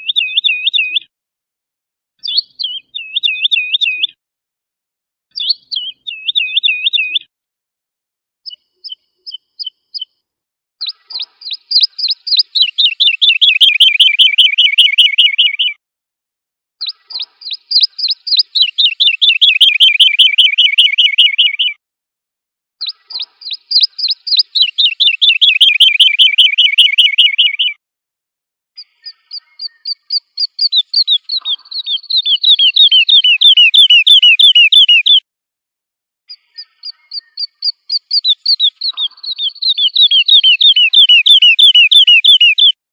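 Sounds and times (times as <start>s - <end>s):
woodlark singing: 0.0s - 1.1s, 2.2s - 4.2s, 5.3s - 7.3s, 8.4s - 10.2s, 10.8s - 15.8s, 16.8s - 21.8s, 22.8s - 27.8s, 28.8s - 35.2s, 36.3s - 42.8s.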